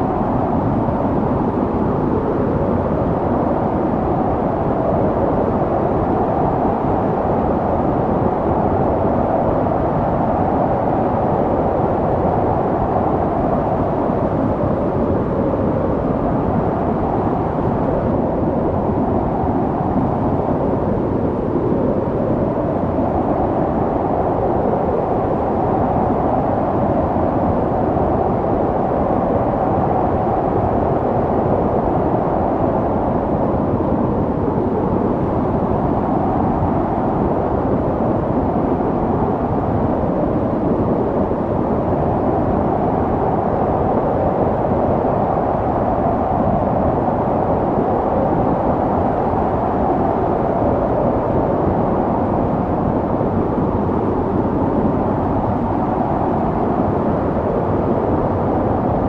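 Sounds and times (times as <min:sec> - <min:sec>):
snowstorm wind rushing: 0:00.0 - 0:59.0.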